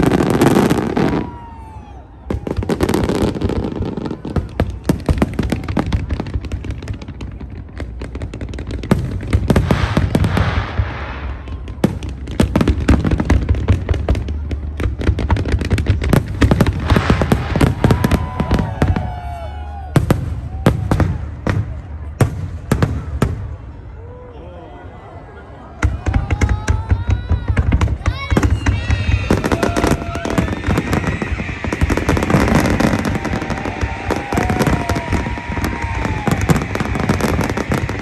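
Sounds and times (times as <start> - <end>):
fireworks cracking and banging: 0.0 - 23.8, 25.8 - 38.0.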